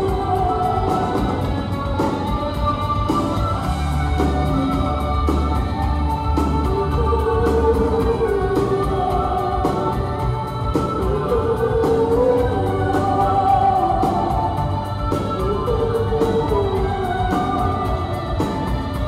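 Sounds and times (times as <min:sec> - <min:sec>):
drums: 0:00.0 - 0:19.0
person singing: 0:00.0 - 0:19.0.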